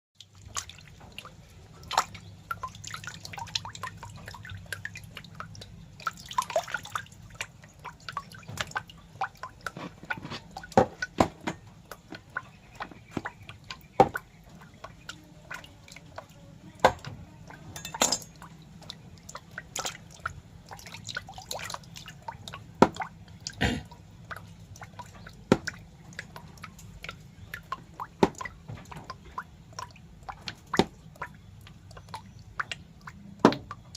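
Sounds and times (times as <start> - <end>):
wet clicks and drips: 0.2 - 33.9.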